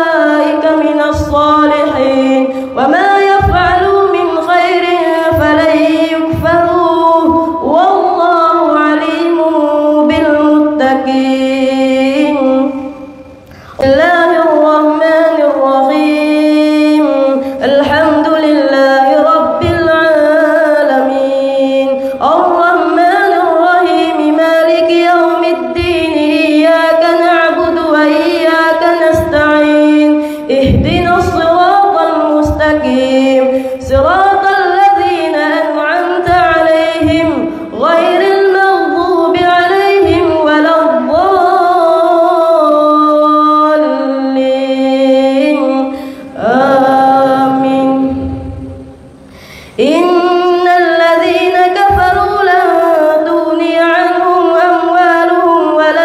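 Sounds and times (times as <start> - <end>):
boy chanting through microphone: 0.0 - 49.0, 49.8 - 56.0.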